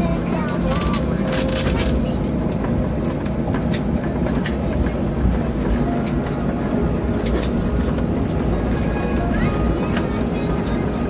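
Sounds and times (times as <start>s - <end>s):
aircraft engine rumble: 0.0s - 11.0s.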